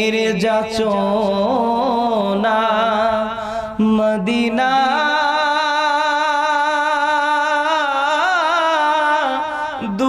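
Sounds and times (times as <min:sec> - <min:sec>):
person singing devotional song: 0:00.0 - 0:10.0.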